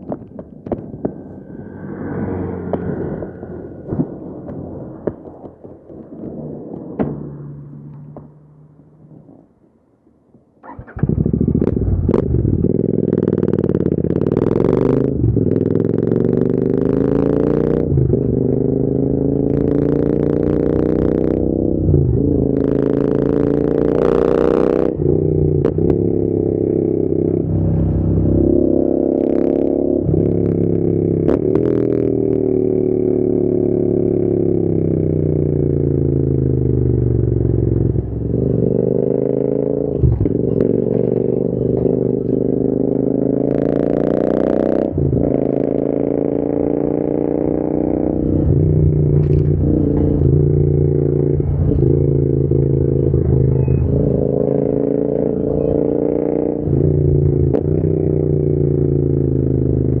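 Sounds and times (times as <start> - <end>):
motorcycle engine revving: 10.6 - 60.0.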